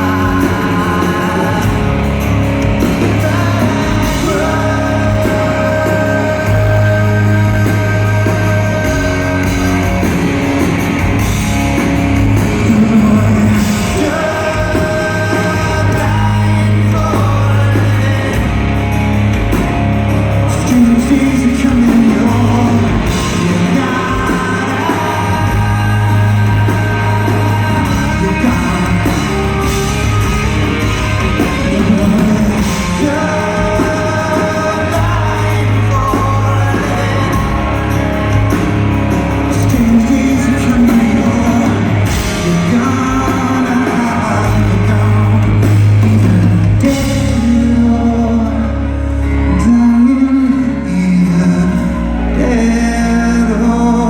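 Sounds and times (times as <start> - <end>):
heavy bass: 0.0 - 54.0
live rock band with singing: 0.0 - 54.0.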